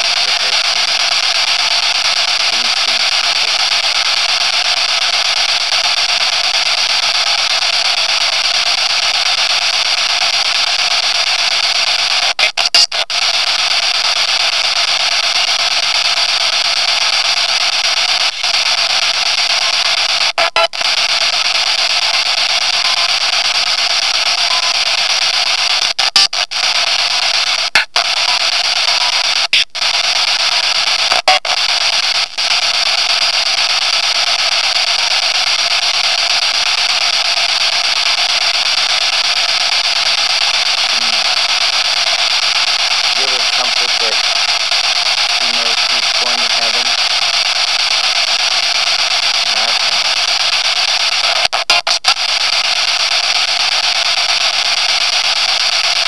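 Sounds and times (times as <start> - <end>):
loud static hiss: 0.0 - 56.0.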